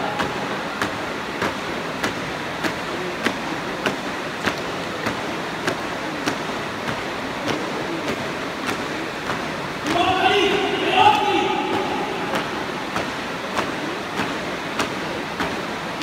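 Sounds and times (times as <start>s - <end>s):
constant hall hiss: 0.0s - 16.0s.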